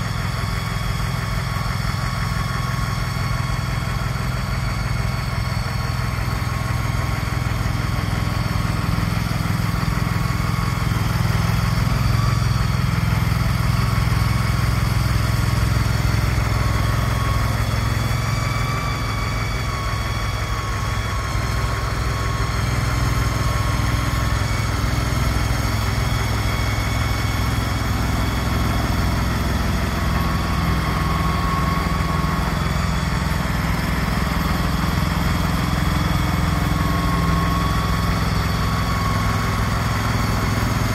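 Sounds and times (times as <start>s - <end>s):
tracked machine engine running: 0.0s - 40.9s.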